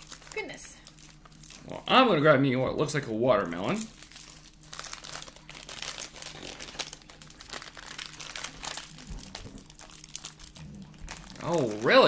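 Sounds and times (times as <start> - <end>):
candy wrapper crinkling: 0.0 - 12.0.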